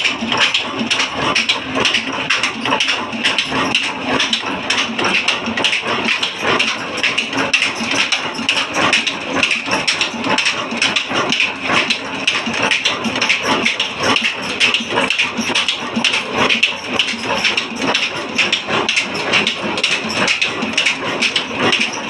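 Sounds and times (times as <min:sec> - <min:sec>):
diesel engine clattering: 0:00.0 - 0:22.0.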